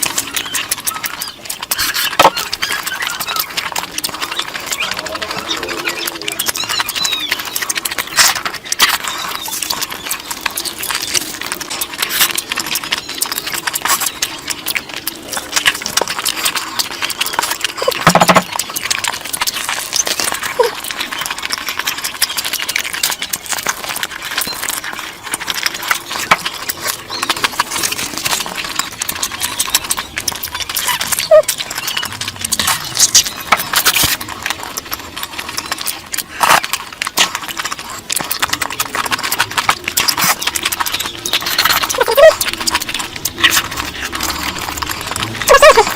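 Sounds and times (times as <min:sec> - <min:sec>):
chewing and lip-smacking: 0:00.0 - 0:45.9.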